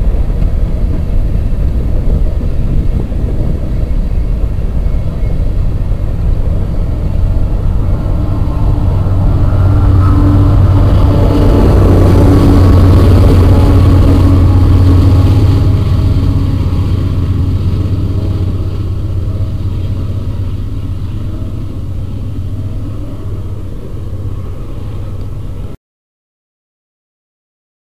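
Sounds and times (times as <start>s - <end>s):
diesel locomotive engine drone: 0.0s - 25.8s
train wheels and cars rattling: 0.0s - 25.8s.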